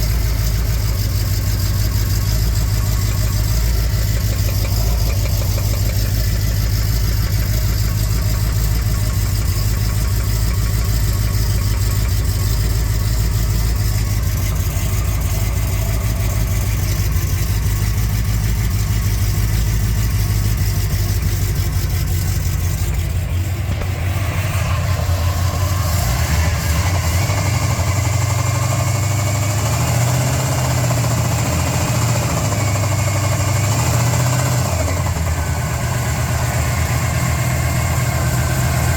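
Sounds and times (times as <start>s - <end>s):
engine idling: 0.0s - 38.9s
rapid engine knocking: 0.0s - 38.9s.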